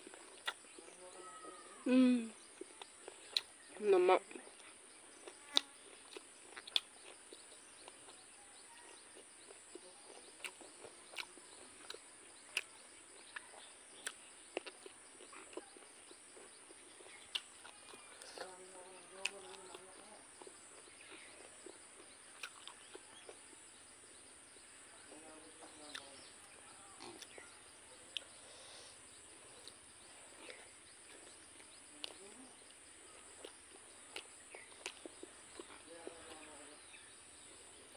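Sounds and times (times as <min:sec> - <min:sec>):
chewing and lip smacks: 0:00.0 - 0:00.9, 0:02.4 - 0:03.7, 0:04.5 - 0:18.6, 0:19.2 - 0:23.8, 0:25.6 - 0:28.4, 0:29.2 - 0:36.5.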